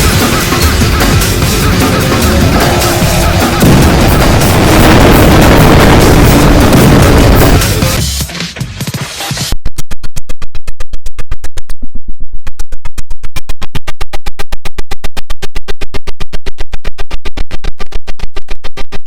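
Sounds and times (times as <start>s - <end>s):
electronic music with stuttering pulse: 0.0s - 19.0s.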